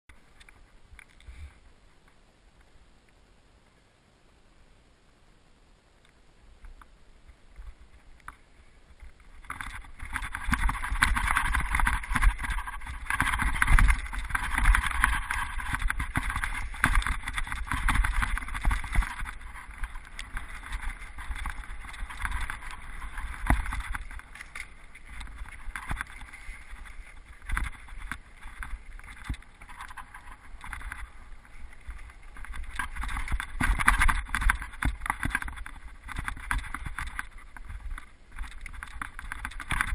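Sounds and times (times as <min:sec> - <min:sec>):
wind on microphone: 0:07.2 - 0:39.9
bike rattling on rocky trail: 0:07.6 - 0:39.9.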